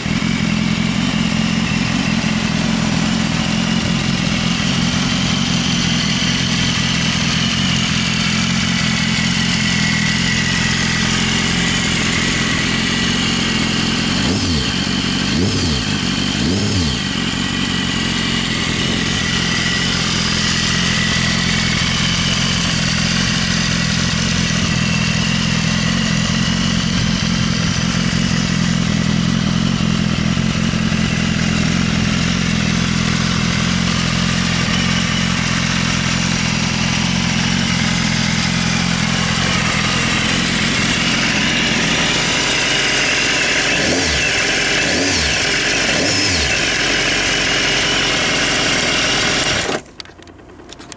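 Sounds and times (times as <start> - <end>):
motorcycle engine idling: 0.0 - 50.9.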